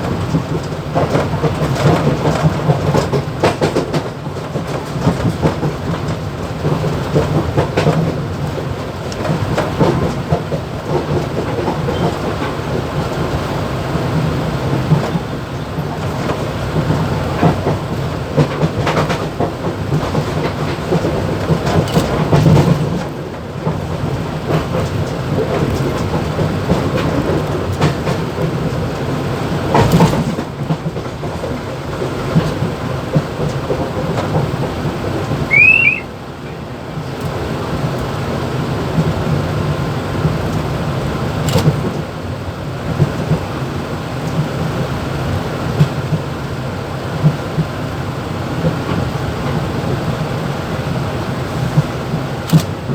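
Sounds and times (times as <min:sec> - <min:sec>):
train rumbling on rails: 0:00.0 - 0:52.9.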